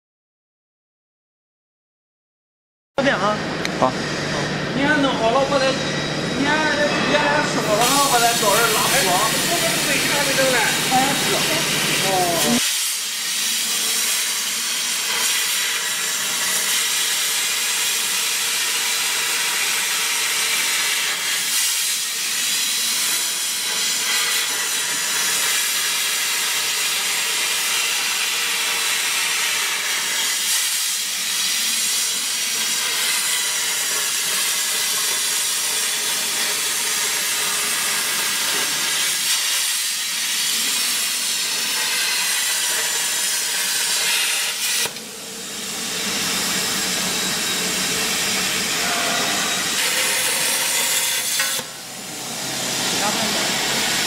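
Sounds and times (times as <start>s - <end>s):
plasma torch hissing: 7.6s - 54.0s.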